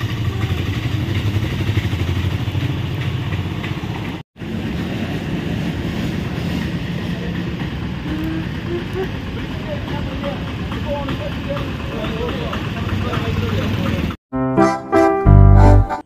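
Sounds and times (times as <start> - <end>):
auto-rickshaw engine humming: 0.0 - 14.2.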